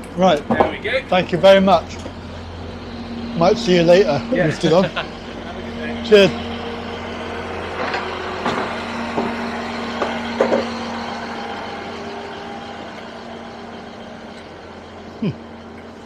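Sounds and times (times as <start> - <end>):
diesel train engine idling: 0.0 - 16.0.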